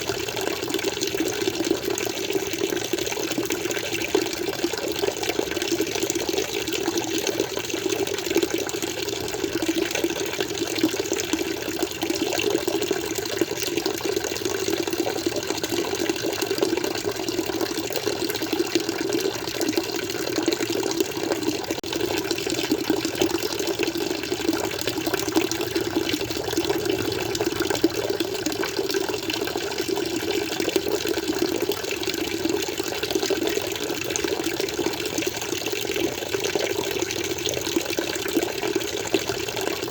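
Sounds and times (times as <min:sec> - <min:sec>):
flowing water splashing: 0:00.0 - 0:39.9.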